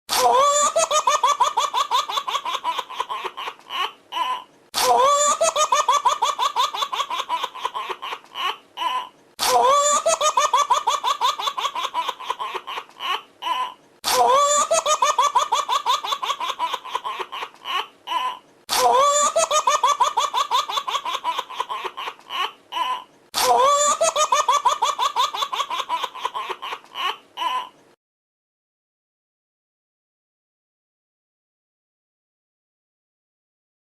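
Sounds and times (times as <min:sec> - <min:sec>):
baby laughing: 0:00.1 - 0:27.8.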